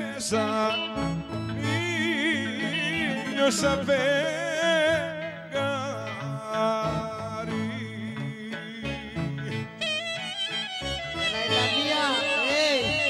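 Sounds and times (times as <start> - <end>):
clarinet: 0.0 - 5.2, 6.7 - 13.0
bass line: 0.0 - 13.0
person singing with vibrato: 0.0 - 13.0.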